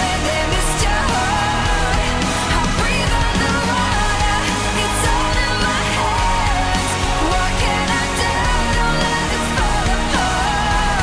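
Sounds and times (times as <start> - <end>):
pop-rock song: 0.0 - 11.0.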